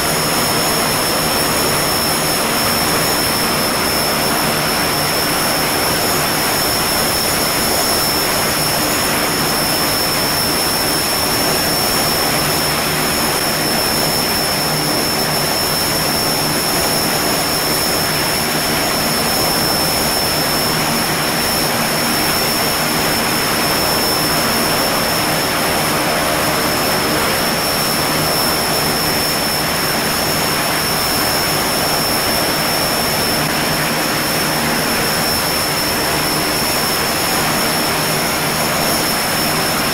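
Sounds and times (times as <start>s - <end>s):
high turbine whine: 0.0s - 39.9s
turboprop engine running: 0.0s - 39.9s.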